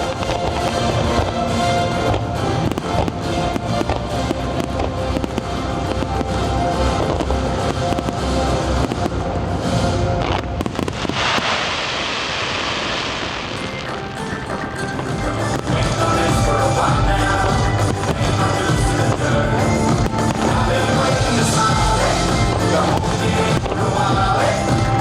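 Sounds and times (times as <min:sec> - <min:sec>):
music: 0:00.0 - 0:11.4, 0:13.5 - 0:25.0
fireworks bangs and crackles: 0:00.0 - 0:25.0.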